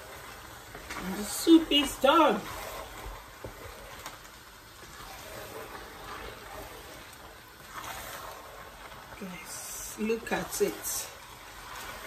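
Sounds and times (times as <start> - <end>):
spoon stirring thick soup: 0.0 - 12.0.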